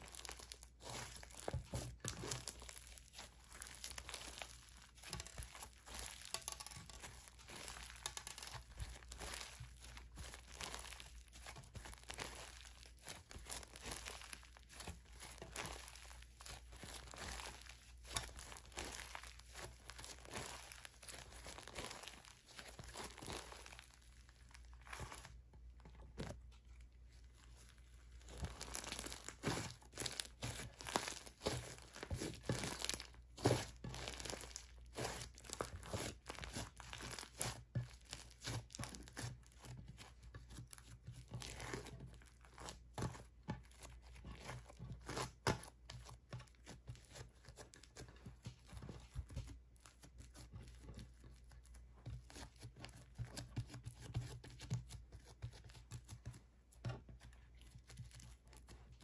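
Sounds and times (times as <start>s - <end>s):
slime squishing with crackles: 0.0s - 59.0s.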